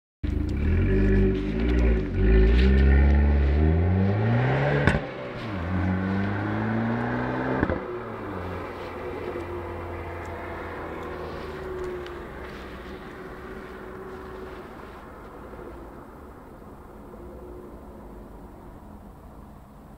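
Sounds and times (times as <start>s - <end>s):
car engine revving: 0.2s - 19.9s.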